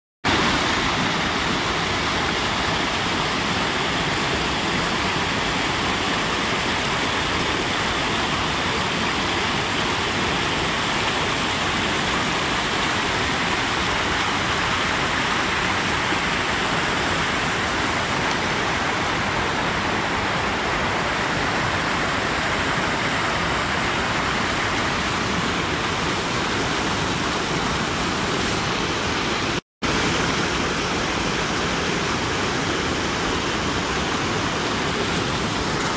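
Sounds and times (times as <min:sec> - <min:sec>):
stream rushing over boulders: 0:00.2 - 0:35.9.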